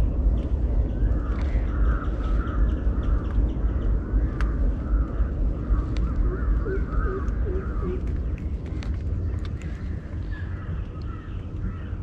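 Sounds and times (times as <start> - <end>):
birds calling: 0.0 - 12.0
wind rumble on microphone: 0.0 - 12.0.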